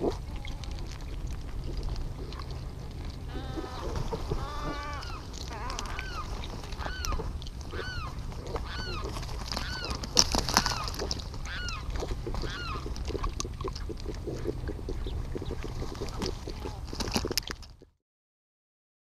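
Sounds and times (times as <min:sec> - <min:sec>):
bird calling: 0:00.0 - 0:16.9
steady low rumble: 0:00.0 - 0:17.9.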